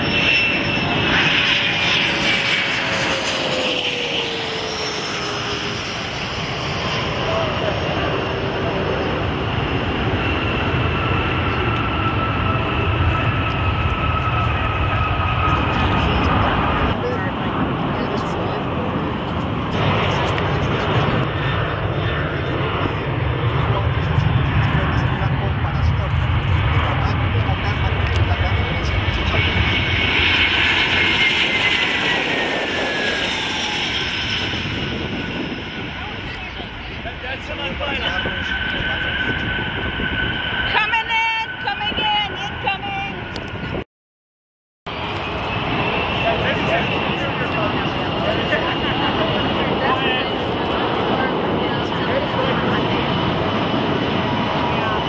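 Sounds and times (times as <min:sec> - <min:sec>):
jet engines rumbling and whining: 0:00.0 - 0:43.9, 0:44.9 - 0:55.0.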